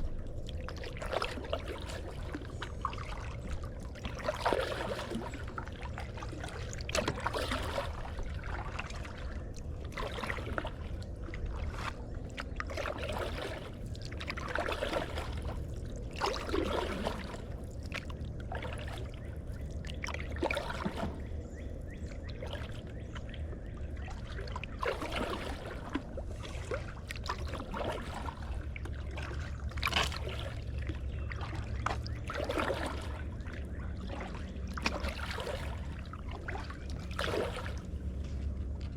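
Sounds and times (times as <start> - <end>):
paddle splashing in water: 0.0 - 38.9
steady low rumble: 0.0 - 38.9.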